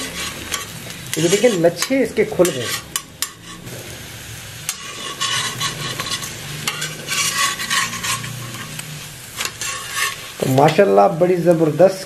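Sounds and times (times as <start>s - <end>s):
ghee sizzling on hot griddle: 0.0s - 12.0s.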